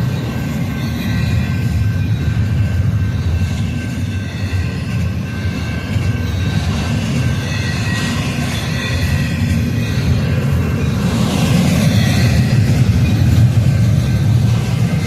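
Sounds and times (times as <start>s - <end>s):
train wheels rumbling on rail: 0.0s - 15.0s
high-pitched wheel squeal: 0.4s - 15.0s.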